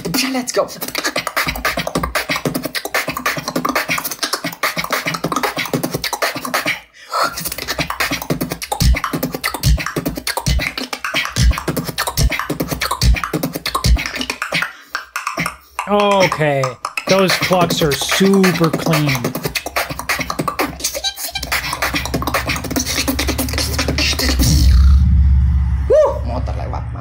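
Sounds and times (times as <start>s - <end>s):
beatboxed deep kick: 0.0s - 6.8s, 7.4s - 25.1s
beatboxing tongue clucks: 0.0s - 24.8s.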